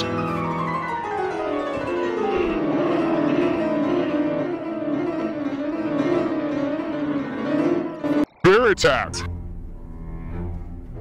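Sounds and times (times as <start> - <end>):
keyboard instrumental music: 0.0 - 11.0.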